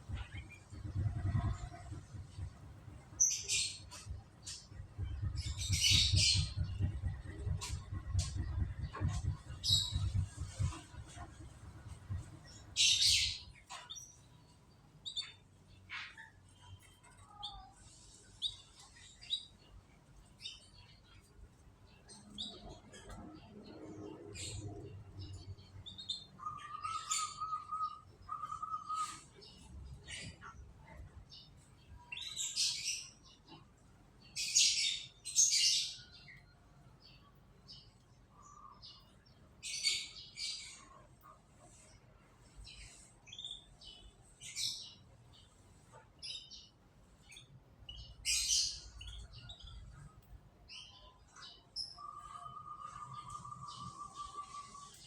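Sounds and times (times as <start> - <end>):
canaries chirping: 0.0 - 55.0.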